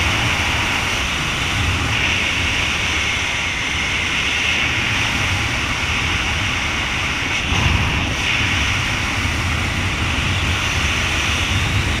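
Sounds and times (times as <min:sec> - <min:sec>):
propeller plane engine drone: 0:00.0 - 0:12.0
wind rush: 0:00.0 - 0:12.0.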